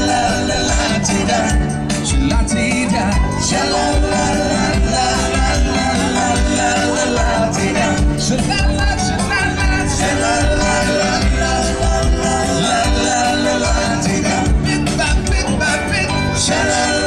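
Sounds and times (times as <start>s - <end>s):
live band playing upbeat song: 0.0s - 17.0s.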